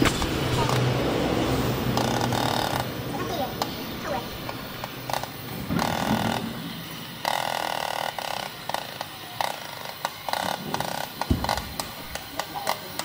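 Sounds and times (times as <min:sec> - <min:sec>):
cutting torch hissing and crackling: 0:00.0 - 0:13.0.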